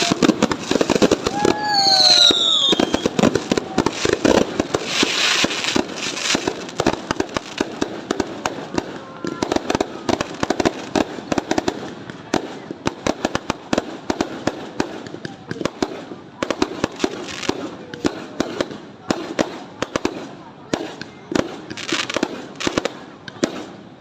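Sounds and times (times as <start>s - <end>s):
fireworks bangs and pops: 0.0s - 24.0s
fireworks crackling hiss: 0.0s - 24.0s.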